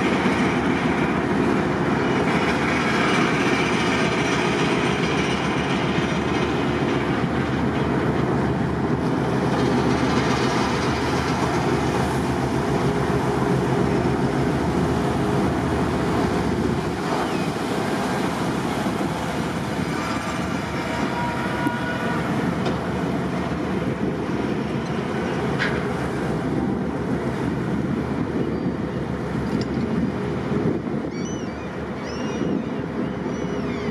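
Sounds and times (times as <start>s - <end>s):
tug diesel engines rumbling: 0.0s - 33.9s.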